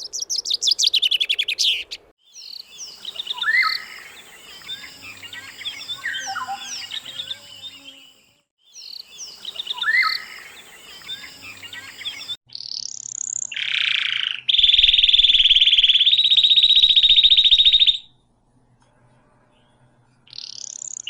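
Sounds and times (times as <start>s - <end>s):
birds chirping and whistling: 0.0s - 8.0s, 8.7s - 18.1s.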